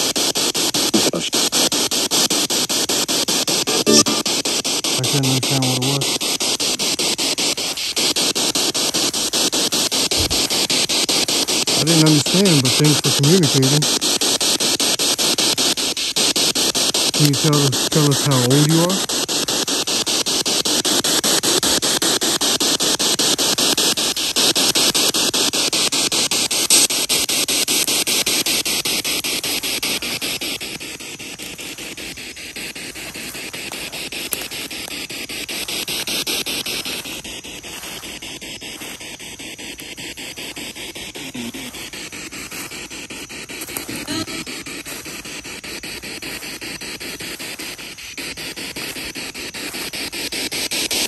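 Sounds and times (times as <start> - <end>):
stuttering radio static hiss: 0.0 - 51.0.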